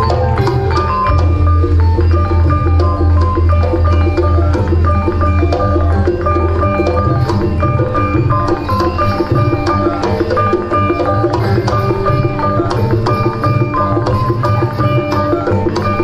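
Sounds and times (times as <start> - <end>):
gamelan music over loudspeakers: 0.0 - 16.0
hand drum strokes: 0.0 - 16.0
ringing metallophone notes: 0.0 - 16.0.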